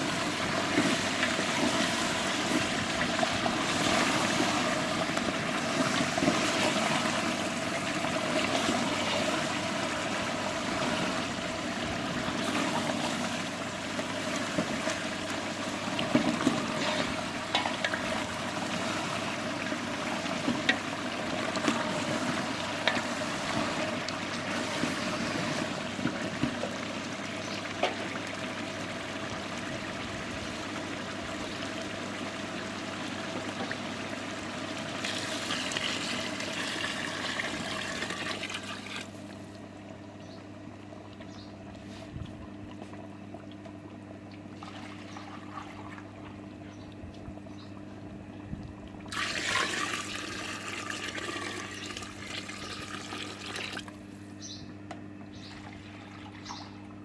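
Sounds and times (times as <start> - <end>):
water pouring and running: 0.0 - 39.5, 44.5 - 46.4, 49.0 - 54.1, 55.5 - 56.6
steady low hum: 0.0 - 57.0.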